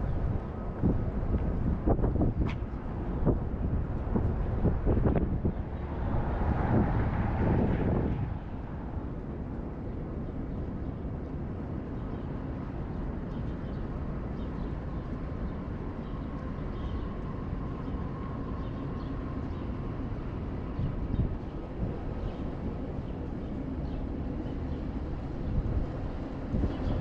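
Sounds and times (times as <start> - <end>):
distant traffic: 0.0 - 27.0
wind buffeting microphone: 0.0 - 27.0.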